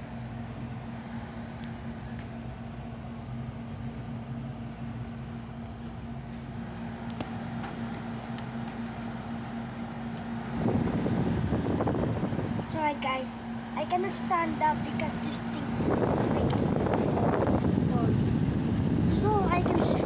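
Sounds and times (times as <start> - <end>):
air conditioner humming: 0.0 - 20.0.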